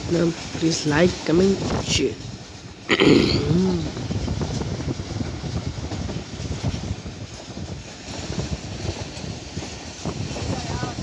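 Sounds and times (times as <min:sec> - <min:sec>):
wheels rumbling on rails: 0:00.0 - 0:11.0
wind on microphone: 0:00.0 - 0:11.0.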